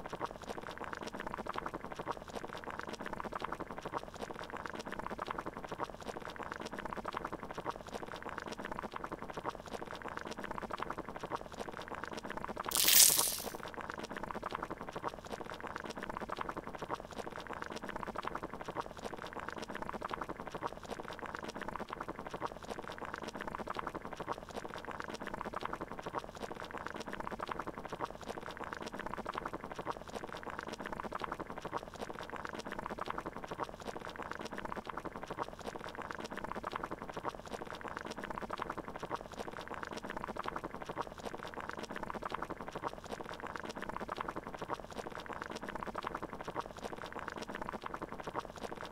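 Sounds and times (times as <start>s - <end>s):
water boiling in a pot: 0.0s - 48.9s.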